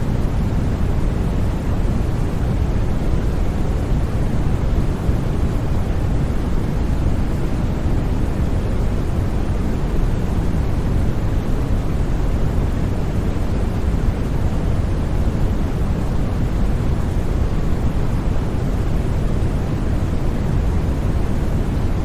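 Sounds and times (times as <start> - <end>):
deep white noise: 0.0 - 22.0.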